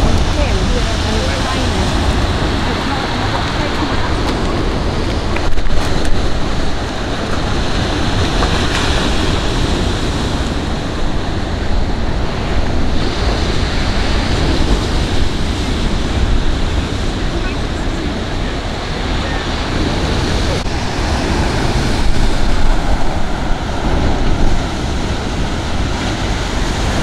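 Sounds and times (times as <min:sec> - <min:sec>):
waves washing onto shingle: 0:00.0 - 0:27.0
wind buffeting microphone: 0:00.0 - 0:27.0.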